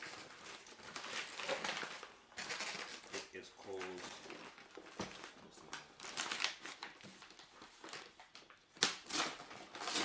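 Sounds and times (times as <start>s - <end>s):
wrapping paper crinkling and tearing: 0.0s - 10.0s.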